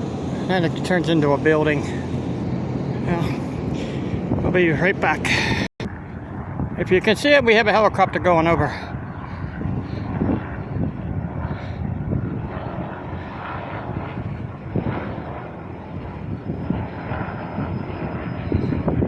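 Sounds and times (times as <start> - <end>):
helicopter flying overhead: 0.0 - 19.0.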